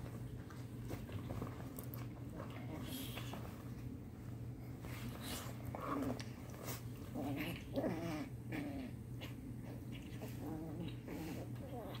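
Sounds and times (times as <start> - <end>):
pets play-growling: 0.0 - 12.0.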